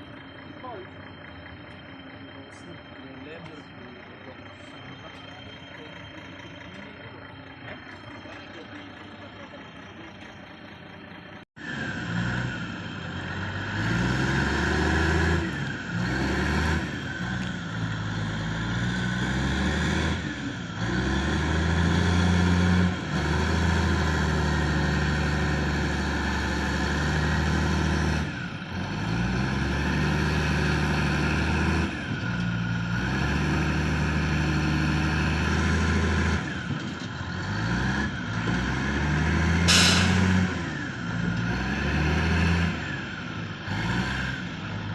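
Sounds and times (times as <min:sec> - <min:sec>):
heavy diesel engine revving: 0:00.0 - 0:44.9.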